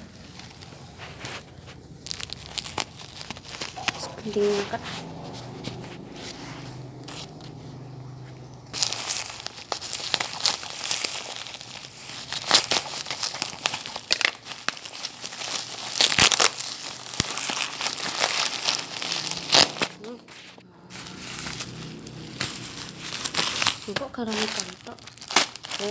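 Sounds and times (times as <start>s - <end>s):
plastic packaging crinkling: 0.0s - 25.9s.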